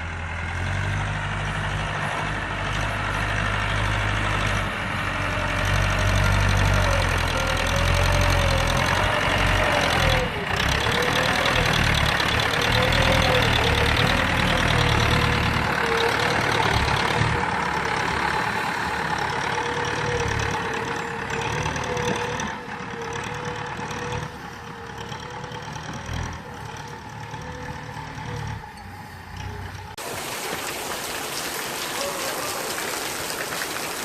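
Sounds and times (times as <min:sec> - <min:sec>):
vehicle engine running: 0:00.0 - 0:30.6.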